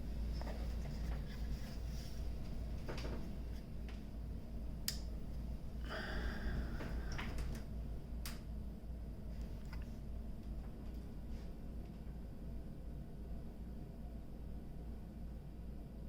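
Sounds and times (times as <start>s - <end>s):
computer fans humming: 0.0s - 16.0s.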